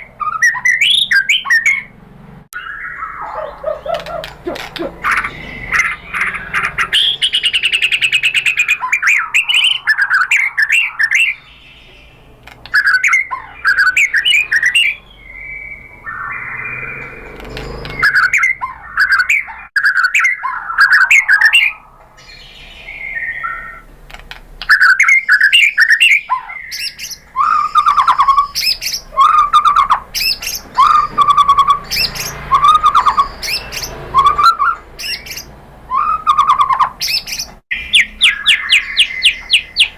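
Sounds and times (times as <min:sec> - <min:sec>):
bird singing whistles and trills: 0:00.0 - 0:01.9, 0:02.6 - 0:23.9, 0:24.6 - 0:39.9.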